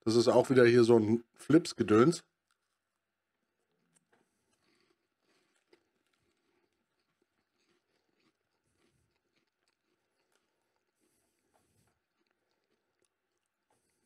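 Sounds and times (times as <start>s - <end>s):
chewing puffed corn snack: 1.2s - 14.0s.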